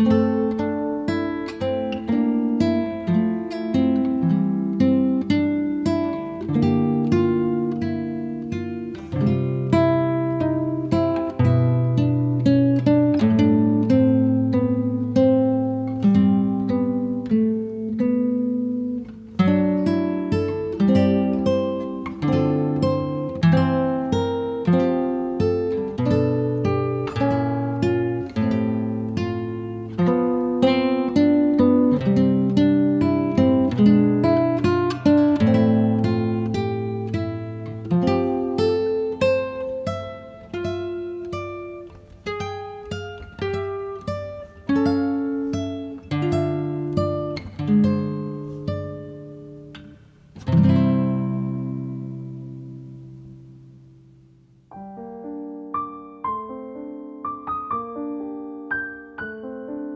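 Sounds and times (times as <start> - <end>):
acoustic guitar plucked notes: 0.0 - 59.9.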